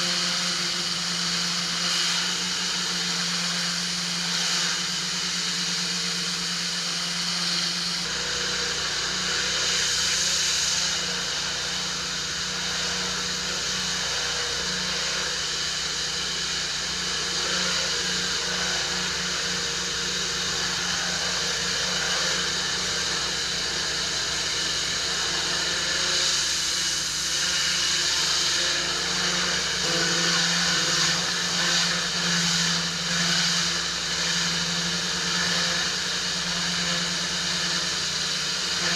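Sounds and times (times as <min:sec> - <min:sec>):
pressure washer hum: 0:00.0 - 0:38.9.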